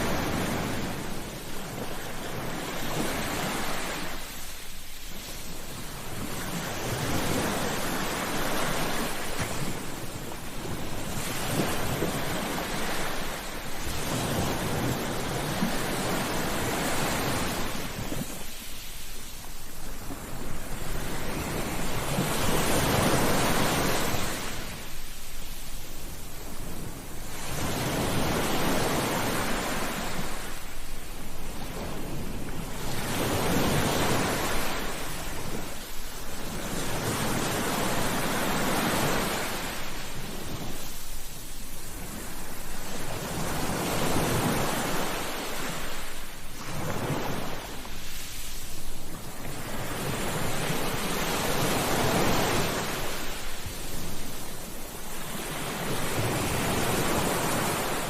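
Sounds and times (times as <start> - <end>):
sea waves breaking on beach: 0.0 - 58.0.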